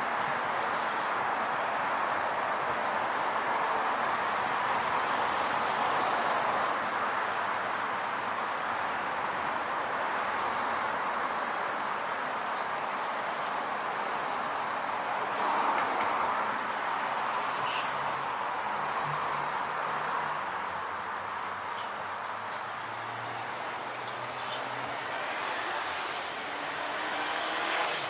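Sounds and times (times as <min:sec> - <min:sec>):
city street traffic: 0:00.0 - 0:28.0.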